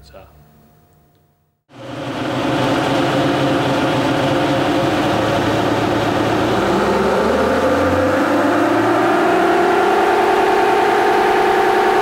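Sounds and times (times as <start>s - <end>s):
engine and drivetrain drone: 1.7s - 12.0s.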